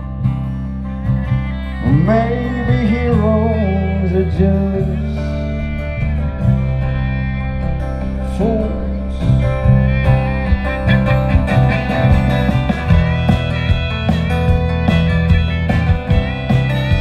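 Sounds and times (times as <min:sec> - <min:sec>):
acoustic guitar strumming: 0:00.0 - 0:17.0
drums: 0:00.0 - 0:17.0
electric bass: 0:00.0 - 0:17.0
fiddle: 0:00.0 - 0:17.0.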